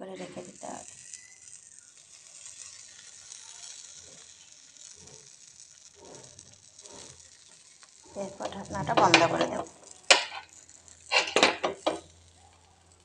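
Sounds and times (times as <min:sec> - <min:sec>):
butter sizzling: 0:00.0 - 0:13.0.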